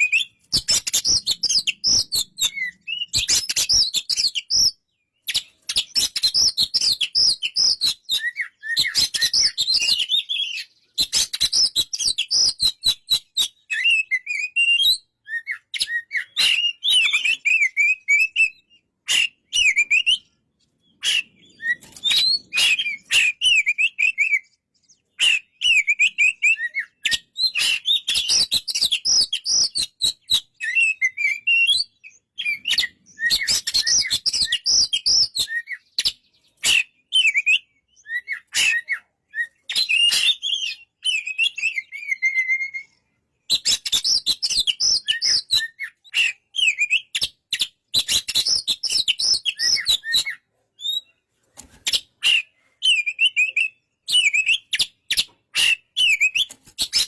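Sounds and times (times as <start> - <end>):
bird singing whistled phrases: 0.0 - 51.2, 51.9 - 57.0.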